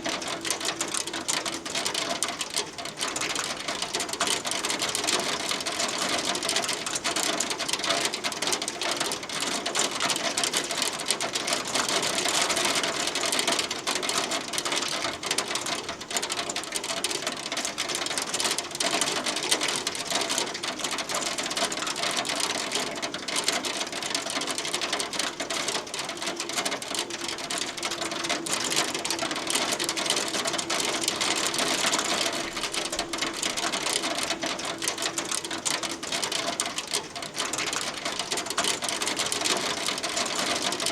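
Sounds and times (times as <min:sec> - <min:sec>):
hail pelting a hard surface: 0:00.0 - 0:40.9.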